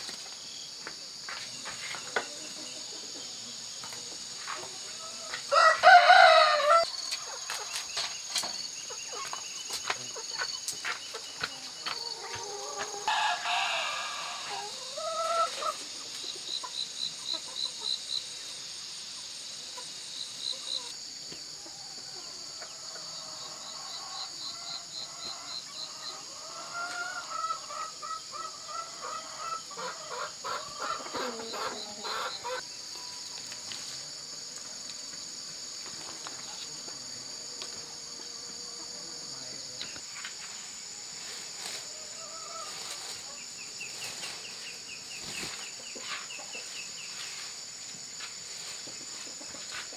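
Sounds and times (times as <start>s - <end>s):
chickens clucking: 0.0s - 18.6s, 19.6s - 34.4s, 41.6s - 49.9s
insect buzz with chirping trills: 0.0s - 49.9s.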